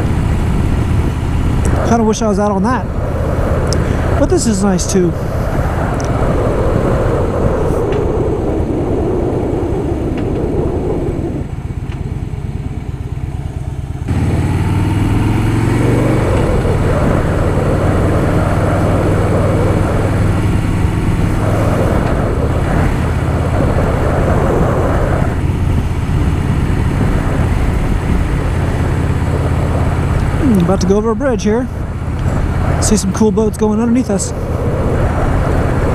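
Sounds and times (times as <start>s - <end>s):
motorcycle engine running: 0.0s - 4.8s, 9.9s - 35.9s.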